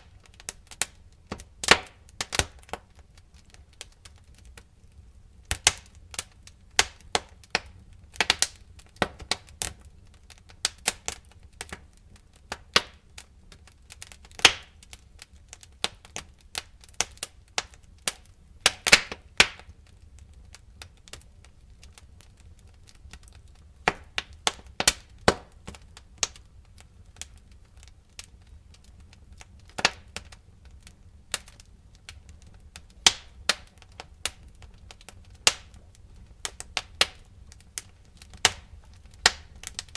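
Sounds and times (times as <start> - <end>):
burning wood popping and snapping: 0.0 - 39.9
low rumble of flames: 0.0 - 39.9.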